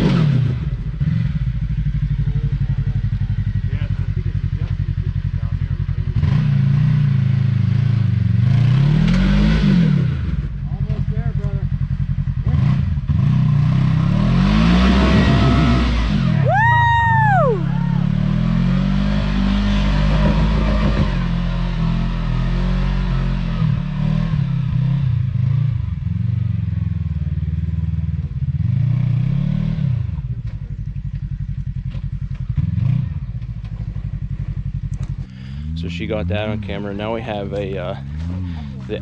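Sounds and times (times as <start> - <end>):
utility vehicle engine revving: 0.0 - 39.0.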